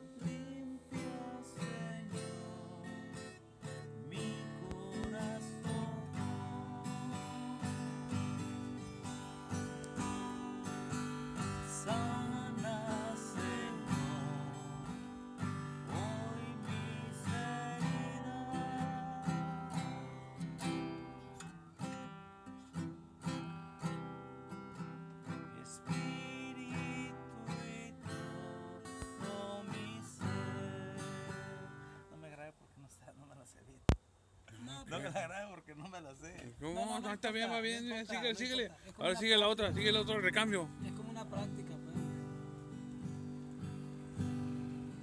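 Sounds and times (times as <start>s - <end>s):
acoustic guitar strumming chords: 0.0s - 32.2s, 39.2s - 45.0s.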